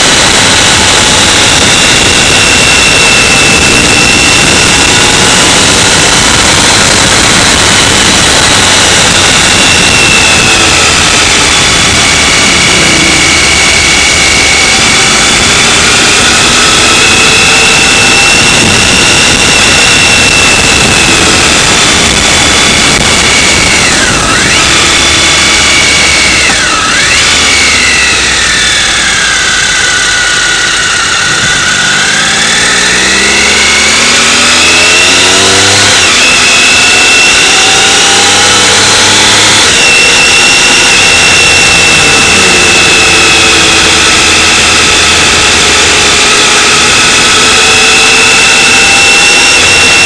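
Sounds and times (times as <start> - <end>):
motorcycle engine running: 0.0 - 50.0
rushing noise: 0.0 - 50.0.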